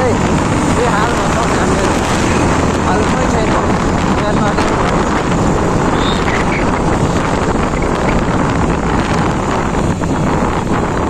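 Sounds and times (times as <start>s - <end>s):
motorcycle engine: 0.0s - 11.0s
road noise: 0.0s - 11.0s
wind rush on microphone: 0.0s - 11.0s.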